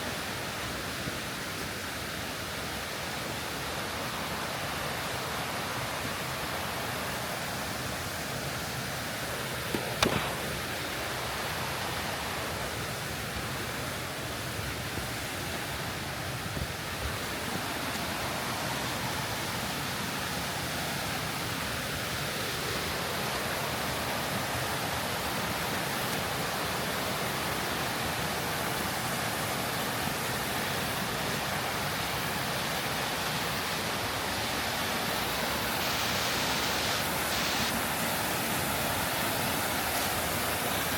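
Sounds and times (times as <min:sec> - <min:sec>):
falling water rushing: 0:00.0 - 0:40.9.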